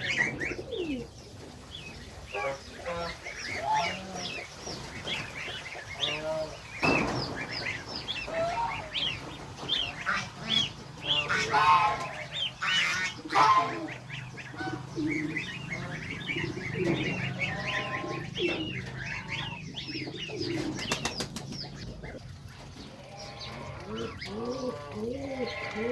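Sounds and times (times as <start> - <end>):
goslings peeping: 0.0 - 25.9.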